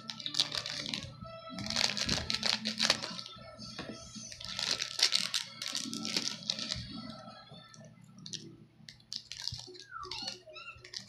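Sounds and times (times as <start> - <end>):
plastic wrapper crinkling: 0.0 - 3.4, 4.3 - 7.0, 7.7 - 11.0.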